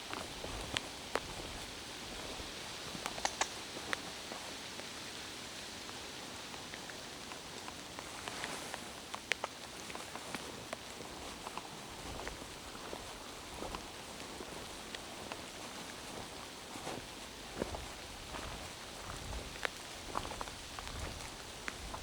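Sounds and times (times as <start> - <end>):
rain falling in a forest: 0.0 - 22.0
sharp ticks of raindrops: 0.0 - 22.0.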